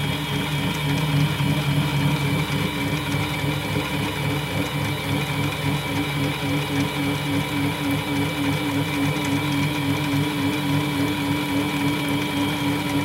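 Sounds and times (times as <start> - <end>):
lathe motor humming and pulsing: 0.0 - 13.0.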